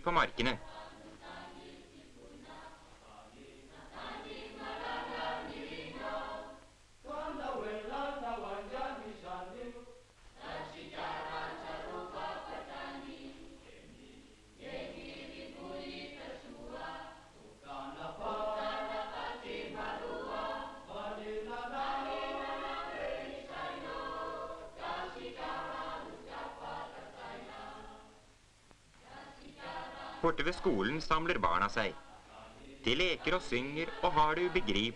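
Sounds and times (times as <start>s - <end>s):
choir singing: 0.1s - 28.3s, 29.0s - 34.9s.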